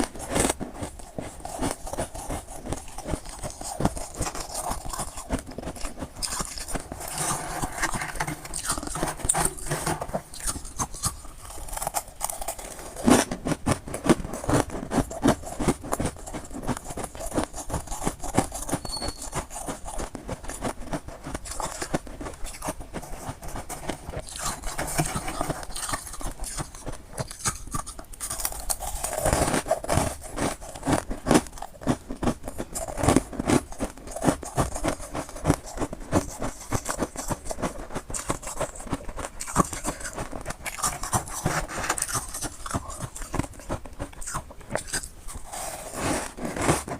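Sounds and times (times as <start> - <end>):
person chewing ice crunching: 0.0 - 46.9.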